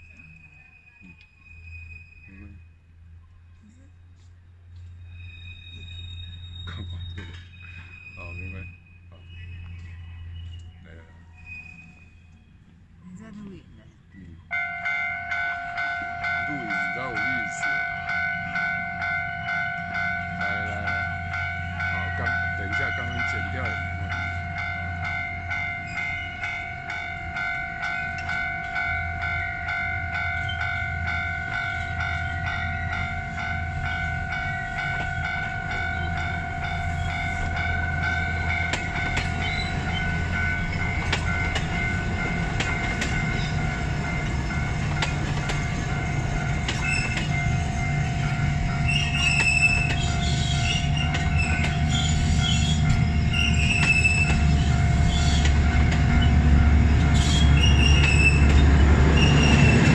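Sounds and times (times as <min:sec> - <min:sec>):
train passing with low rumble: 0:00.0 - 0:59.9.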